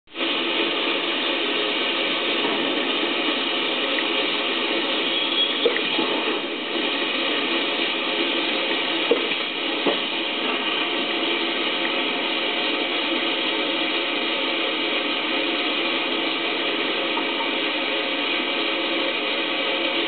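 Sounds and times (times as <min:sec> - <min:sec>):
machinery running: 0:00.1 - 0:20.0.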